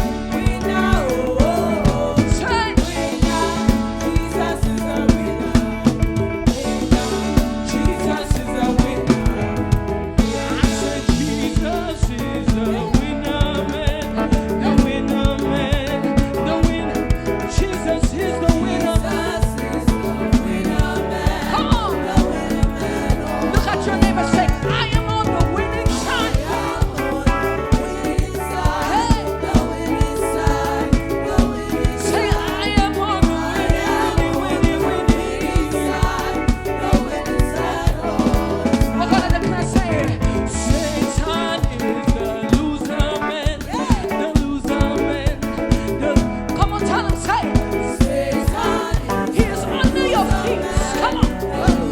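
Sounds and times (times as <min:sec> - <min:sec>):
live praise band music: 0:00.0 - 0:51.9
steady drum beat: 0:00.0 - 0:51.9
voices singing: 0:00.0 - 0:51.9.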